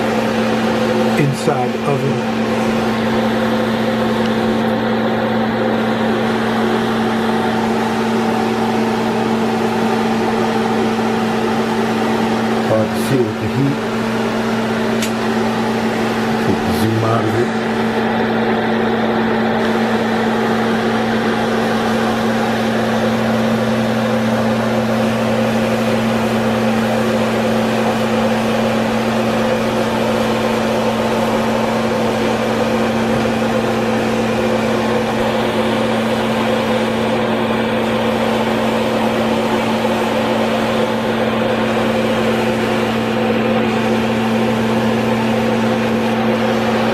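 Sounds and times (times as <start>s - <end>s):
appliance fan motor humming: 0.0s - 46.9s
low electrical buzz: 0.0s - 46.9s.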